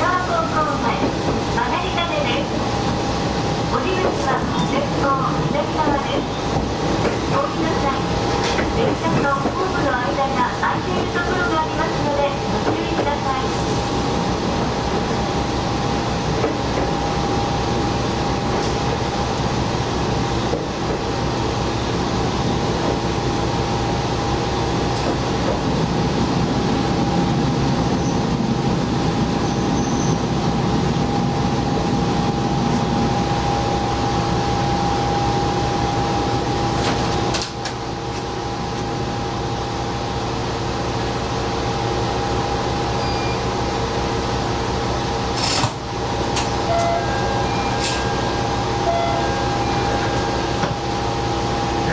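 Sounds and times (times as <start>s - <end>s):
diesel railcar engine and rolling hum: 0.0s - 51.9s.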